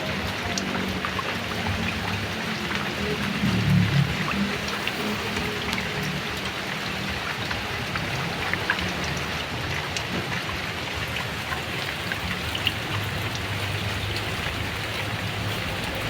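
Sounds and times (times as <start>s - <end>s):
heavy rain falling: 0.0s - 16.0s
distant thunder rumble: 1.5s - 16.0s.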